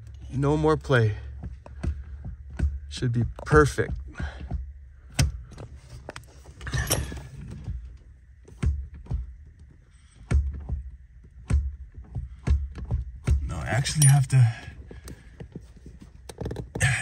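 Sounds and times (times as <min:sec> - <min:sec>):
accelerator pedal clicking: 0:00.0 - 0:17.0.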